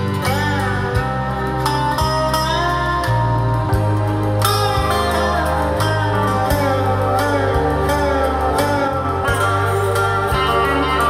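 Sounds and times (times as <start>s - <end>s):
guitar music through speakers: 0.0s - 11.0s
long held bass notes: 0.0s - 11.0s.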